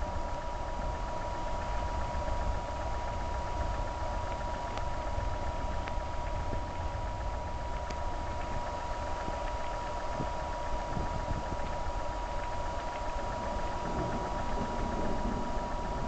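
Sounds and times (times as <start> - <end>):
low rumble: 0.0 - 16.0
thin whine: 0.0 - 16.0.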